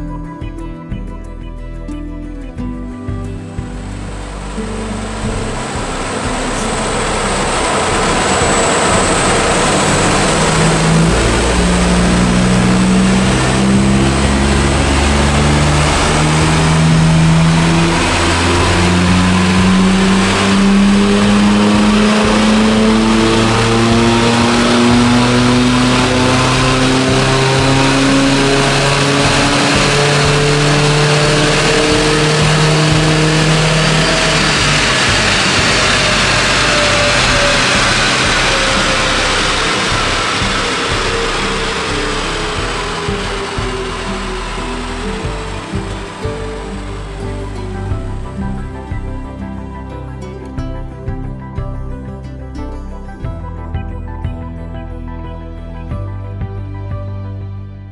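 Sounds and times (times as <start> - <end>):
diesel engine under load: 3.3 - 51.7.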